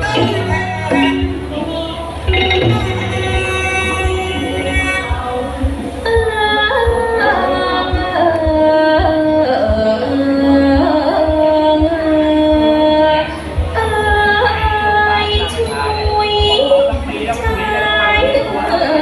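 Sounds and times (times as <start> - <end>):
drum strokes: 0.0 - 18.3
instrumental accompaniment: 0.0 - 19.0
person singing long bending notes: 0.0 - 19.0.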